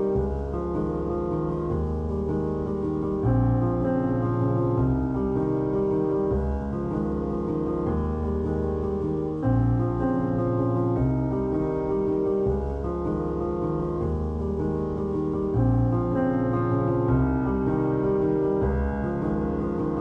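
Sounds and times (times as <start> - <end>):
piano chords over bass line: 0.0 - 20.0.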